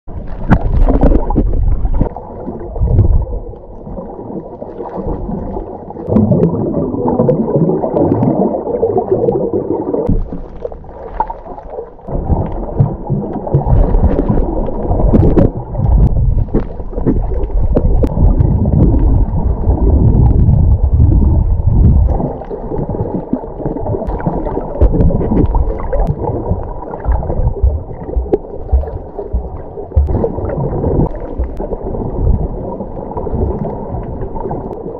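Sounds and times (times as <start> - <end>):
underwater gurgling and sloshing: 0.1 - 34.9.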